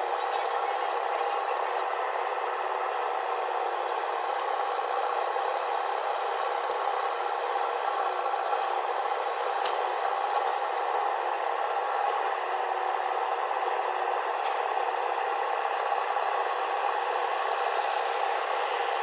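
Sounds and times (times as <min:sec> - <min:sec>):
heavy machinery running: 0:00.0 - 0:19.0.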